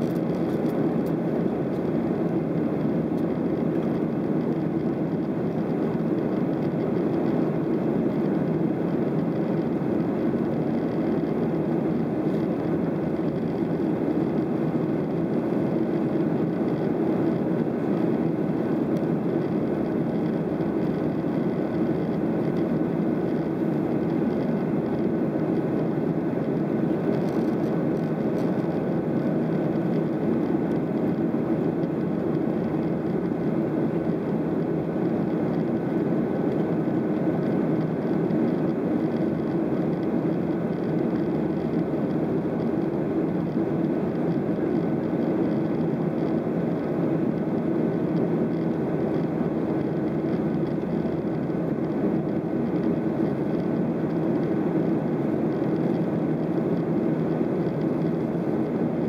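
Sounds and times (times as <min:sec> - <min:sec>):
airplane cabin drone: 0:00.0 - 0:59.0
faint steady whine: 0:00.0 - 0:59.0.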